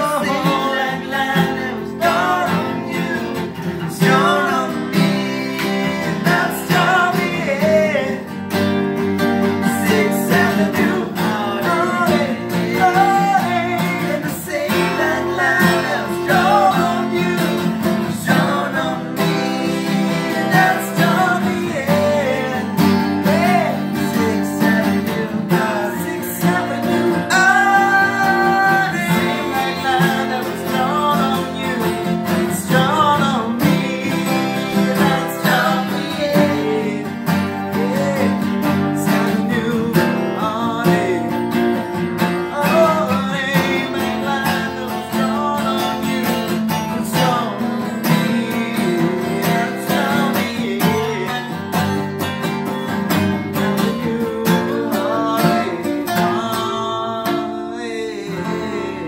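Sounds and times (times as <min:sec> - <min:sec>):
man singing: 0:00.0 - 0:08.6, 0:09.4 - 0:59.0
acoustic guitars strummed: 0:00.0 - 0:59.0.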